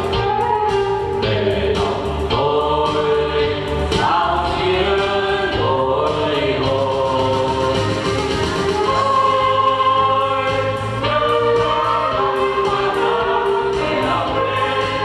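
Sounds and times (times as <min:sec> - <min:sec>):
group singing in unison: 0:00.0 - 0:15.0
instrumental accompaniment with bass: 0:00.0 - 0:15.0.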